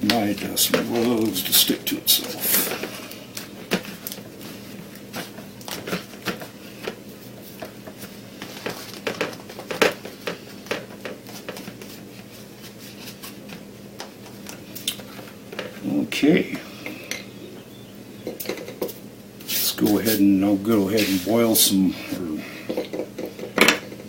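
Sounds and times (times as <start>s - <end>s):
hands packing wood shavings: 0.0s - 16.6s, 19.4s - 22.4s
faint steady hum: 0.0s - 24.0s.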